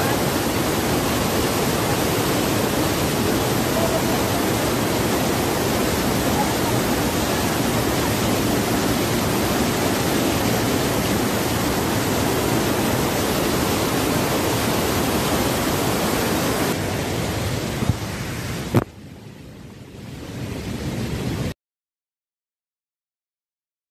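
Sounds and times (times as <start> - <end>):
river water rushing over rapids: 0.0 - 21.5.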